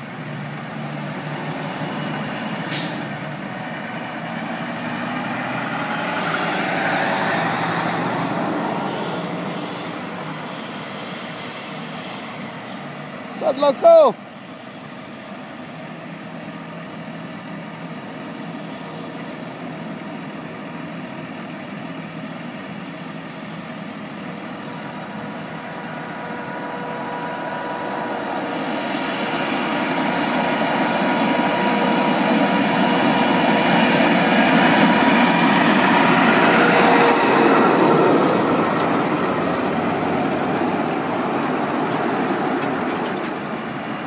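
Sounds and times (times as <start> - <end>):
diesel truck approaching: 0.0 - 44.0
engine hum: 0.0 - 44.0
heavy road traffic: 0.0 - 44.0.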